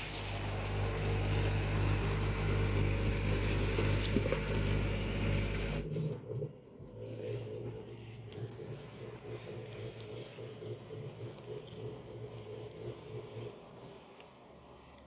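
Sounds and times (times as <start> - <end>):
washing machine drain pump humming: 0.0 - 14.2.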